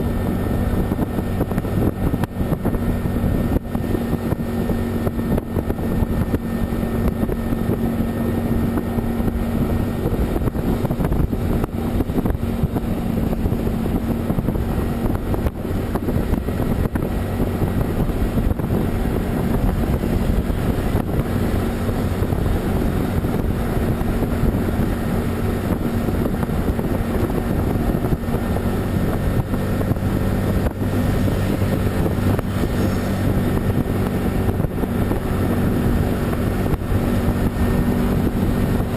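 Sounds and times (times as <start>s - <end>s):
road and wind noise: 0.0s - 38.9s
vehicle engine droning: 0.0s - 38.9s.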